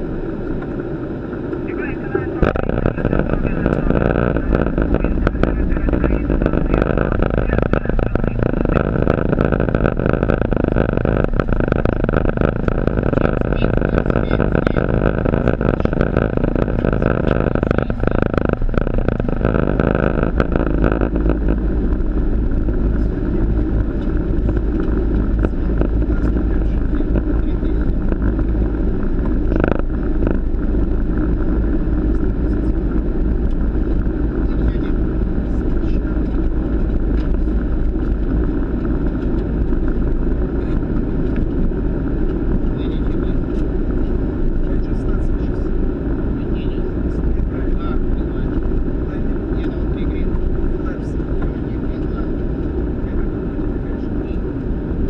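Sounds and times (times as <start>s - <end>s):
crackles and clicks: 0.0s - 55.0s
steady rushing cockpit noise: 0.0s - 55.0s.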